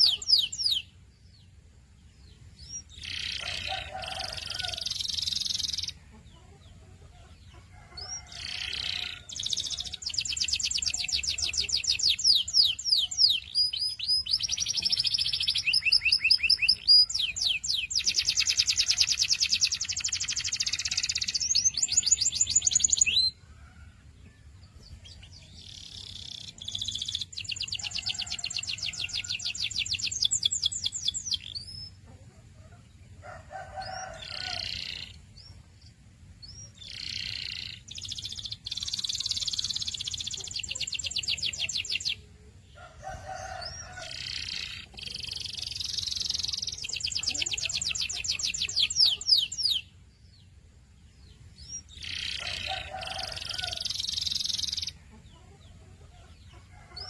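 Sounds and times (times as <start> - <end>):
canary singing trills: 0.0 - 23.7, 24.8 - 57.0.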